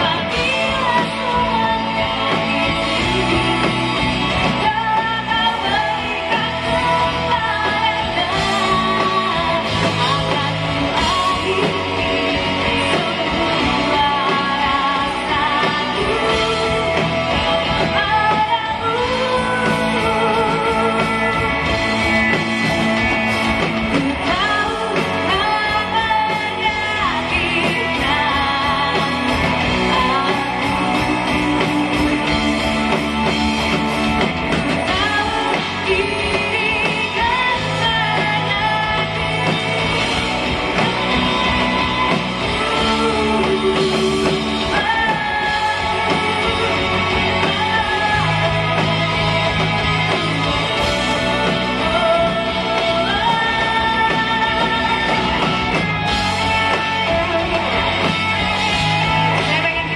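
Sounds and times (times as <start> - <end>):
live rock band playing: 0.0 - 59.9
woman singing: 0.0 - 59.9.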